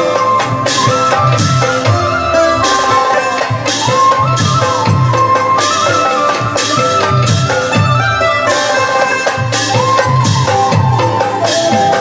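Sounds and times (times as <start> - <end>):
high held melodic line: 0.0 - 12.0.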